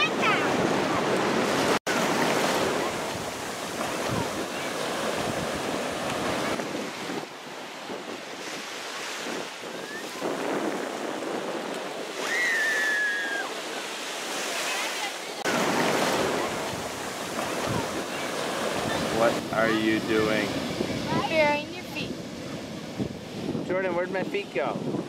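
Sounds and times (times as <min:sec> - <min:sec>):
wind buffeting microphone: 0:00.0 - 0:13.9, 0:15.4 - 0:25.0
ocean surf breaking: 0:00.0 - 0:25.0.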